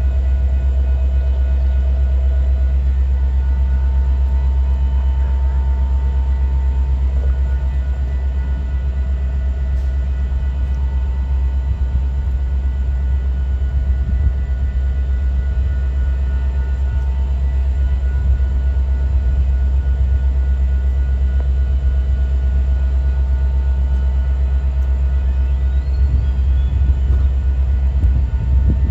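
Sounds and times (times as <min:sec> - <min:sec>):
faint steady whining tones: 0:00.0 - 0:28.9
train rumbling: 0:00.0 - 0:28.9.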